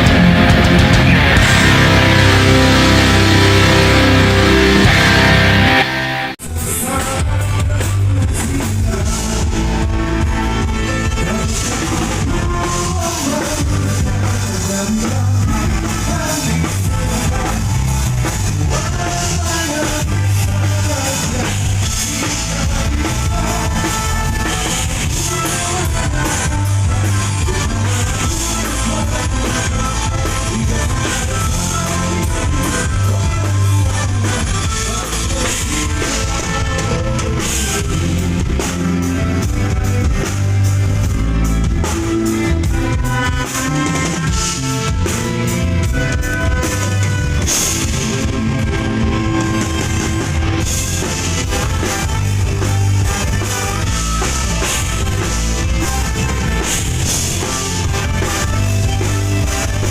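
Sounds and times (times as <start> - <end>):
drum kit: 0.0 - 59.9
guitar: 0.0 - 59.9
live rock band playing: 0.0 - 59.9.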